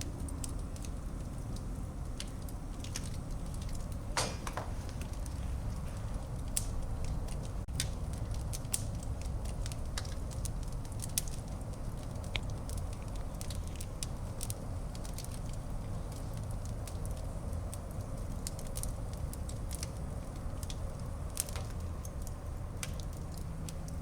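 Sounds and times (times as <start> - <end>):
fire crackles and pops: 0.0 - 24.0
low rumble of flames: 0.0 - 24.0.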